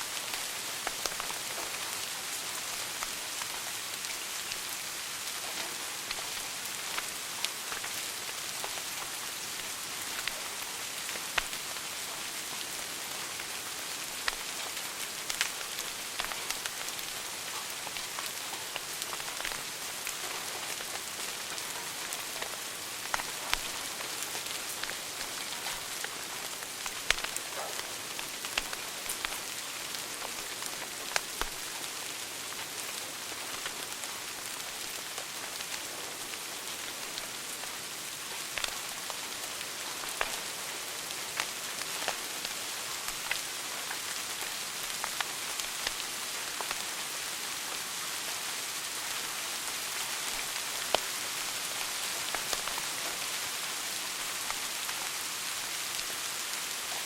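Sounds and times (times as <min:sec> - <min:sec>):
wood fire crackling: 0:00.2 - 0:46.9, 0:49.6 - 0:53.4.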